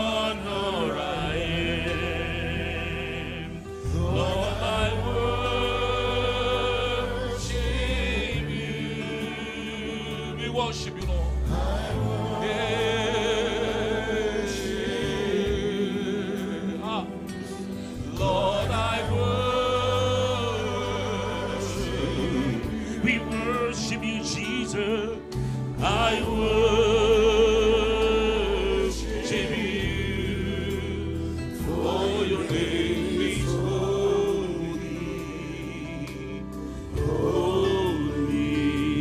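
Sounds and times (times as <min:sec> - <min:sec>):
gospel instrumental accompaniment: 0:00.0 - 0:39.0
steady bass line: 0:00.0 - 0:39.0.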